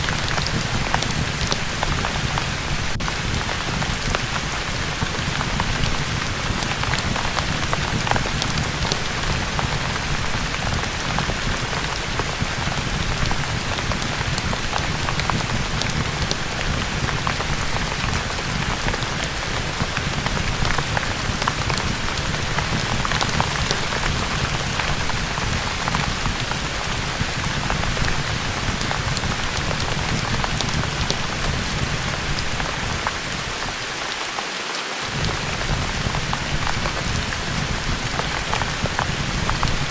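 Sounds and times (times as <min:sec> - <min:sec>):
sharp ticks and crackles: 0:00.0 - 0:33.8
heavy rain: 0:00.0 - 0:39.9.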